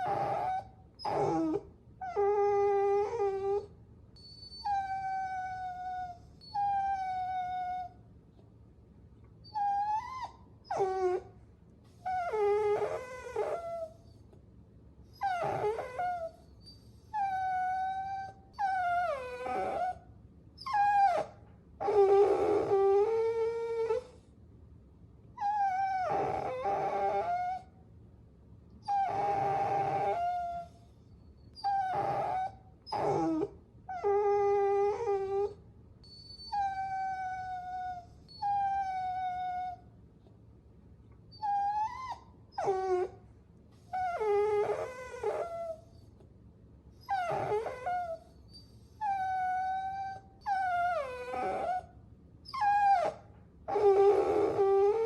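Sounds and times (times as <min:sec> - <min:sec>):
puppies whining: 0:00.0 - 0:08.0, 0:09.4 - 0:11.3, 0:11.9 - 0:14.3, 0:15.1 - 0:20.0, 0:20.6 - 0:24.2, 0:25.4 - 0:27.7, 0:28.8 - 0:39.8, 0:41.3 - 0:43.2, 0:43.8 - 0:46.2, 0:47.0 - 0:55.0.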